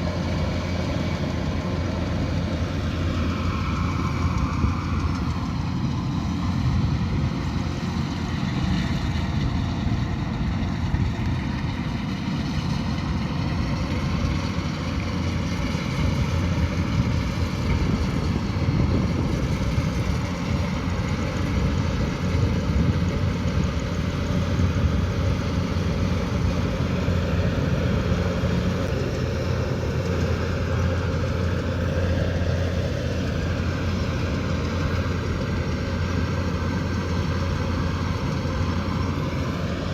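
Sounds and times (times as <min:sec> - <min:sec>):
combine harvester humming: 0:00.0 - 0:39.9.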